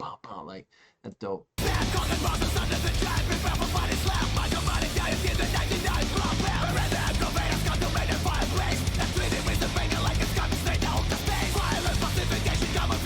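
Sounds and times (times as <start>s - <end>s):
fast thrash metal: 1.6s - 13.0s.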